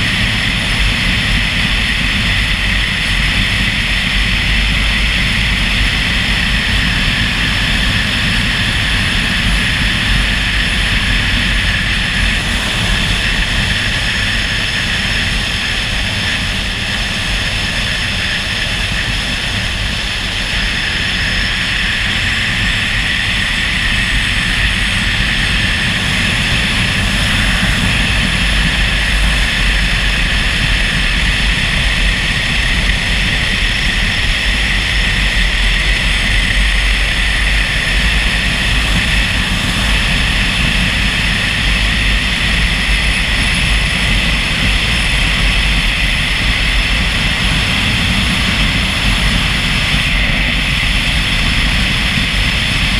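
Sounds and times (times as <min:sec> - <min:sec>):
motorcycle engine drone: 0:00.0 - 0:52.9
wind rushing on microphone: 0:00.0 - 0:52.9.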